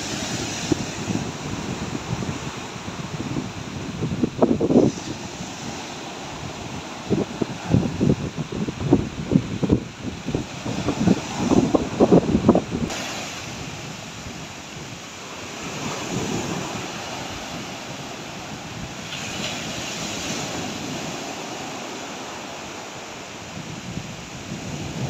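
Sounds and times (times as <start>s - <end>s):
surf breaking on beach: 0.0s - 25.0s
wind across microphone: 0.0s - 25.0s.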